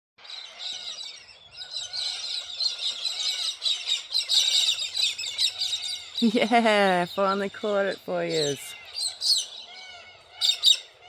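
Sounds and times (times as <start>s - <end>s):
flock of birds chirping: 0.2s - 11.0s.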